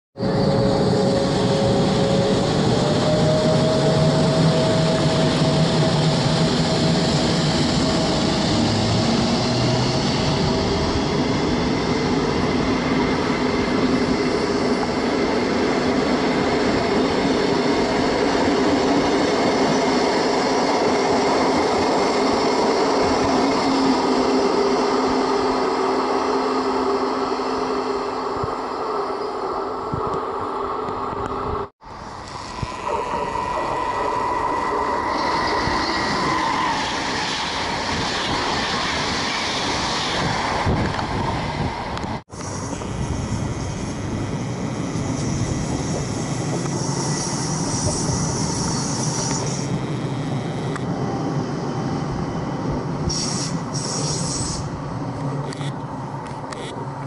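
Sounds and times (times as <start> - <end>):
train wheels rolling on rails: 0.2 - 29.1, 29.8 - 57.0
train whine: 0.2 - 57.0.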